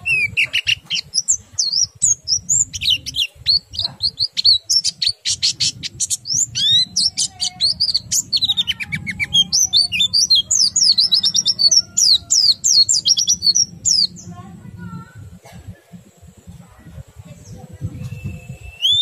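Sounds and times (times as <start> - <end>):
bird singing high chirps: 0.0 - 14.9, 17.4 - 19.0.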